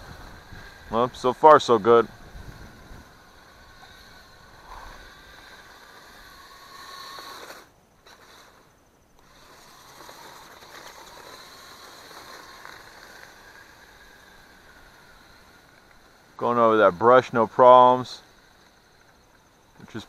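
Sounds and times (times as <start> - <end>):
small electric motors whining: 0.0 - 20.0
hiss: 2.0 - 20.0.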